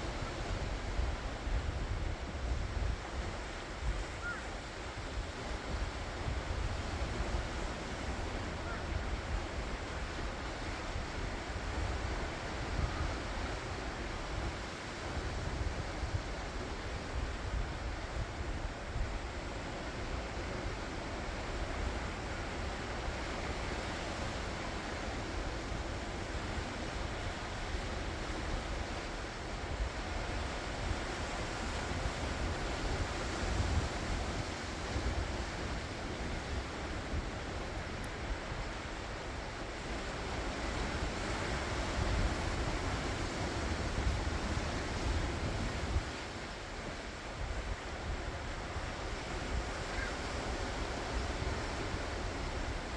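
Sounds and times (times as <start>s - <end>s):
ocean waves washing onto shore: 0.0s - 52.9s
wind rumbling on microphone: 0.0s - 52.9s.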